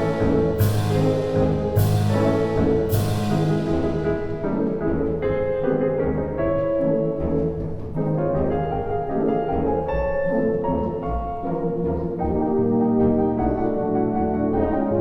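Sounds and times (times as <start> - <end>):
classical ballet music: 0.0 - 15.0.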